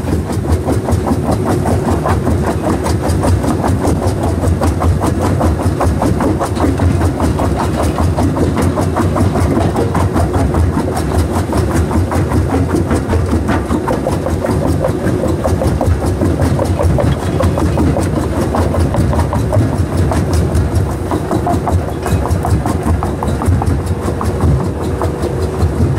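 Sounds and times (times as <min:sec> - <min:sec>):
crusher machine drone: 0:00.0 - 0:25.9.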